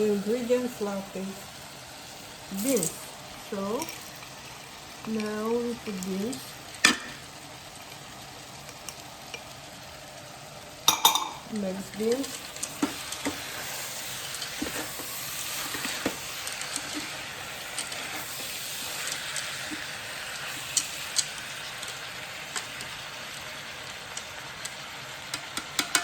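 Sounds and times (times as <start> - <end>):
vegetables sizzling in a pot: 0.0 - 26.0.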